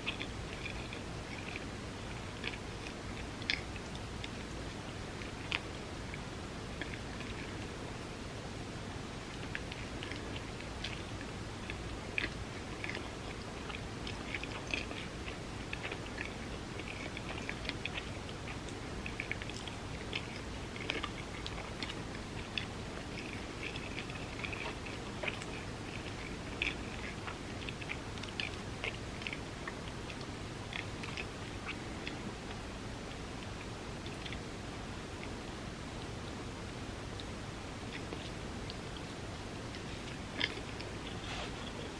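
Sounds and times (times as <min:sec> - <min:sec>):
chewing with wet mouth clicks: 0:00.0 - 0:41.9
low background hiss: 0:00.0 - 0:41.9.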